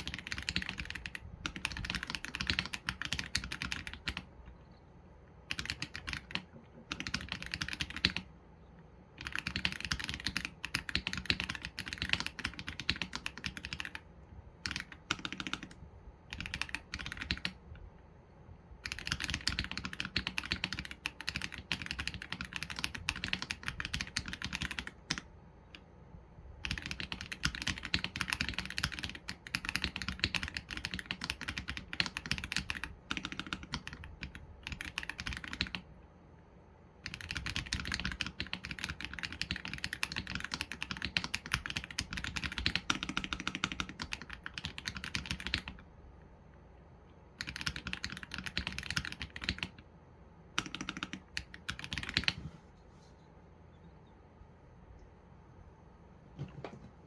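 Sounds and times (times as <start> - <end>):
mechanical keyboard typing: 0.0 - 4.6, 5.3 - 8.4, 9.1 - 17.8, 18.8 - 25.9, 26.6 - 35.9, 37.0 - 45.9, 47.4 - 49.8, 50.5 - 52.4.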